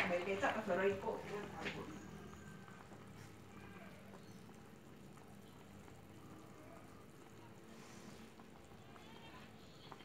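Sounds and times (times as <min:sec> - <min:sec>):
curry bubbling in a pan: 0:00.0 - 0:10.0.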